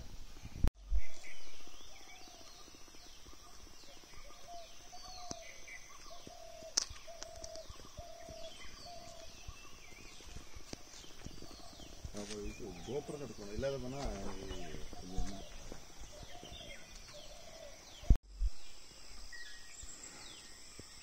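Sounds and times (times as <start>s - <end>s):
birds calling: 0.0s - 18.2s.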